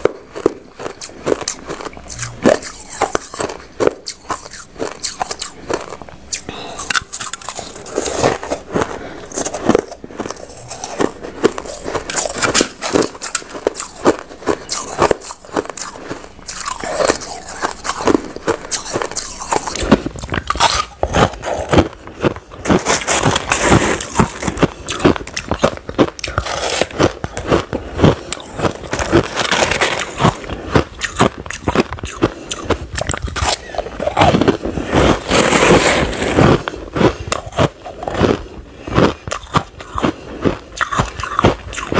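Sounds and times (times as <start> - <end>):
chewing crushed ice: 0.0 - 41.9.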